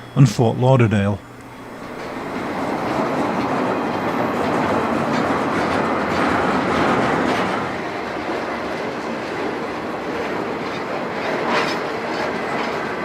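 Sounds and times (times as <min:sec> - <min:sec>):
freight train wheels clicking on rails: 0:01.6 - 0:13.0.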